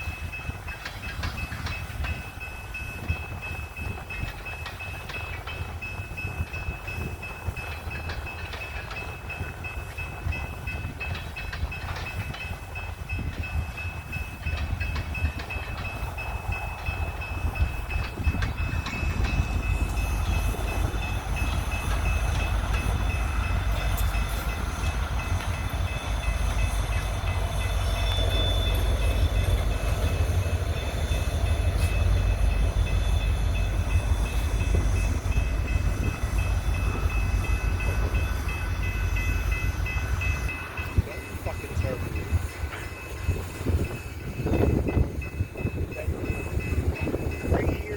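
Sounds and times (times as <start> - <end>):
train rumbling on rails: 0.0 - 47.9.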